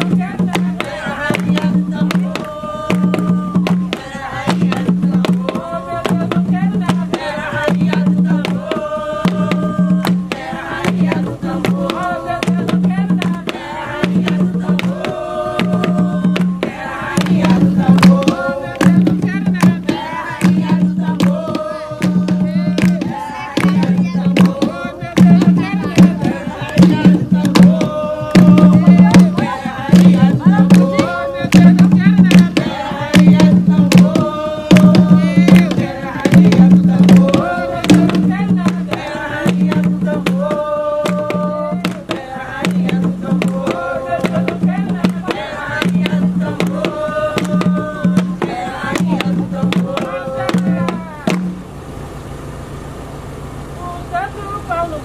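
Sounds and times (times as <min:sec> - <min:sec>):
group of voices singing: 0:00.0 - 0:51.7
hand drums beating: 0:00.0 - 0:51.7.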